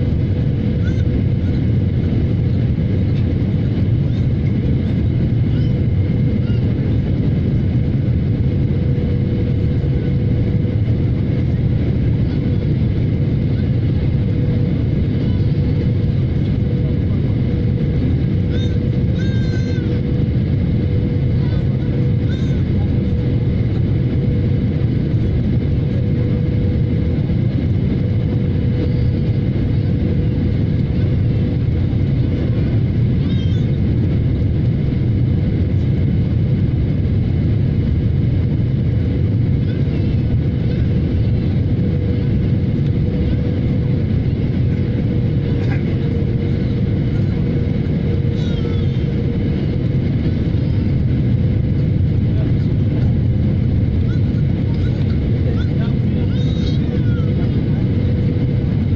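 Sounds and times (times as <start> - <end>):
jet engines and rushing air: 0.0 - 58.9.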